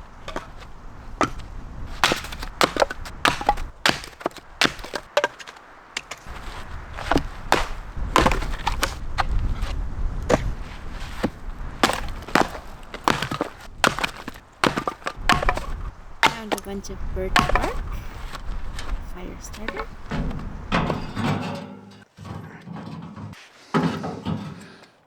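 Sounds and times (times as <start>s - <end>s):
firewood being chopped: 0.0s - 21.3s.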